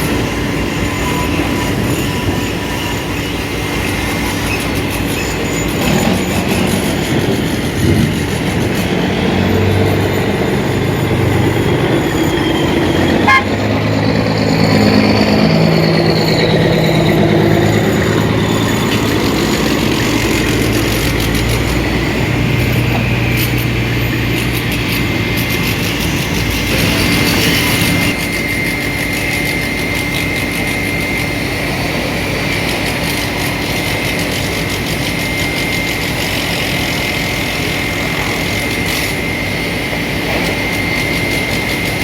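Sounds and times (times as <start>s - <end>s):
diesel truck engines running: 0.0s - 42.0s.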